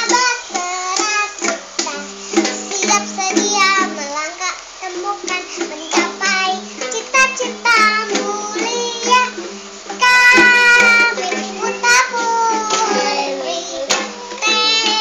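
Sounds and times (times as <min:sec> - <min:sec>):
girl singing: 0:00.0 - 0:15.0
guitar strumming: 0:00.0 - 0:15.0.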